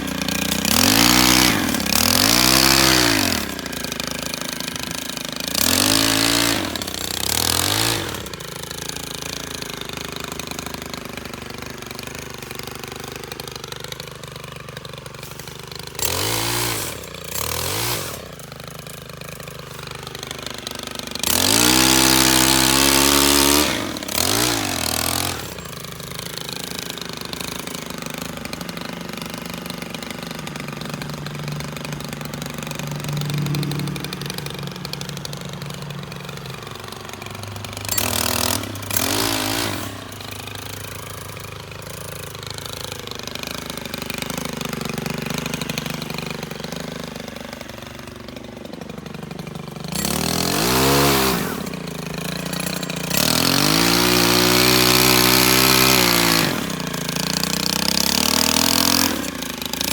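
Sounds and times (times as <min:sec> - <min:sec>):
small engine idling and revving: 0:00.0 - 0:59.9.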